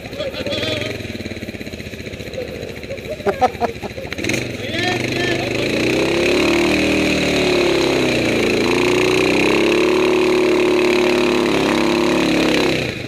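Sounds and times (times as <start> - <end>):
quad bike engine churning mud: 0.0 - 13.0.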